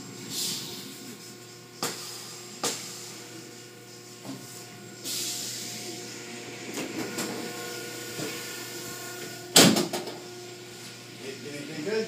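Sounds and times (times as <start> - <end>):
car wash machinery hum: 0.0 - 12.0.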